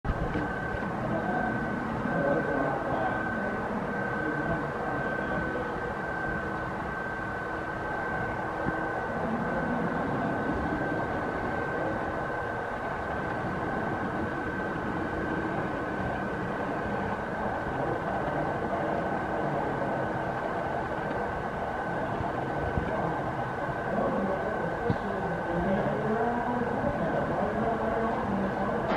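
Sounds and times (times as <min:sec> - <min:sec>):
constant high-pitched tone: 0:00.1 - 0:28.9
model train rumbling on track: 0:00.1 - 0:28.9.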